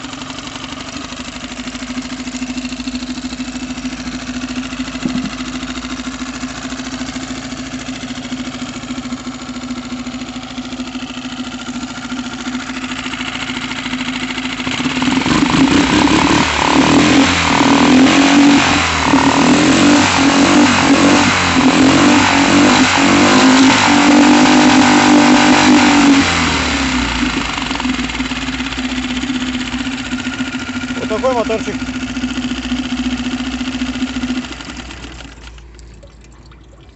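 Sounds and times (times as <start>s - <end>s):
outboard motor idling and revving: 0.0s - 36.9s.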